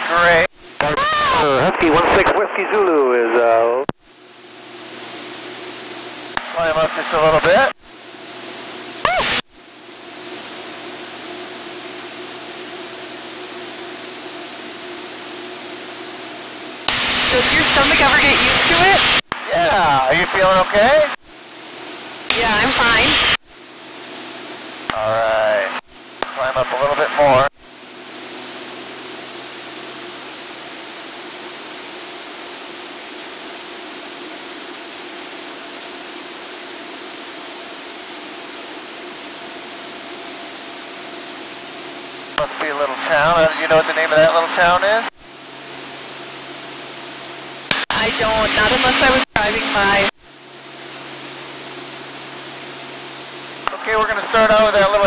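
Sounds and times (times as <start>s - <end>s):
faint steady hum: 0.1s - 55.0s
airplane cockpit hiss: 7.0s - 19.2s, 21.3s - 42.4s, 43.0s - 54.8s.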